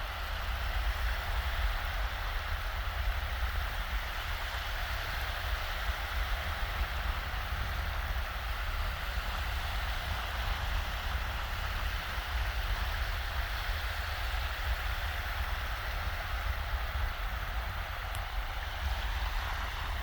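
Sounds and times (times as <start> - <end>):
waves washing onto beach: 0.0 - 20.0
wind rumble: 0.0 - 20.0.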